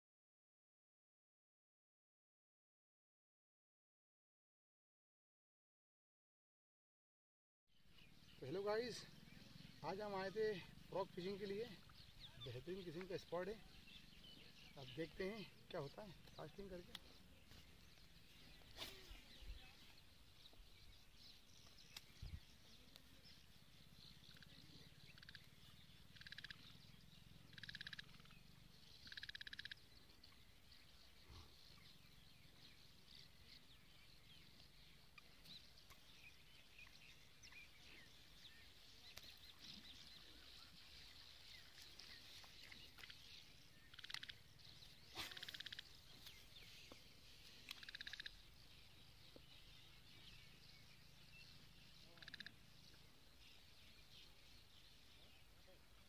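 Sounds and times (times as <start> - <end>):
high animal chorus: 8.0 - 56.0.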